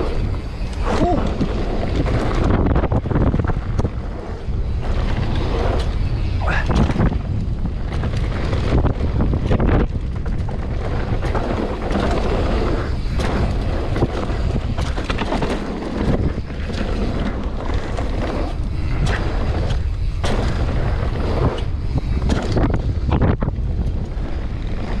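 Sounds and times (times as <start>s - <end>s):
bike knocks and rattles: 0.0s - 25.0s
bike tyres rumbling over dirt: 0.0s - 25.0s
wind buffeting microphone: 0.0s - 25.0s.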